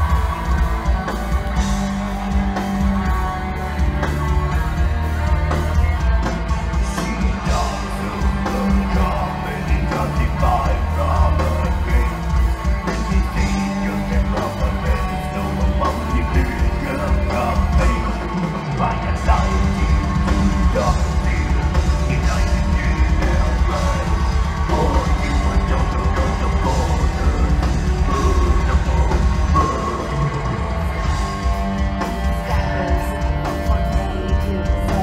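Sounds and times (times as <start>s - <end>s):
harsh yelled vocals: 0.0s - 35.0s
metal band playing live: 0.0s - 35.0s.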